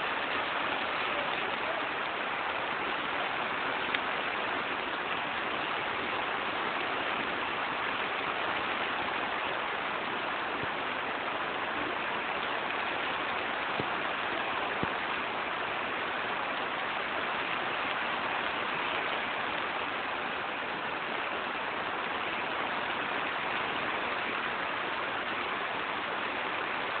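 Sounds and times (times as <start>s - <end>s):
rain on a greenhouse: 0.0s - 27.0s.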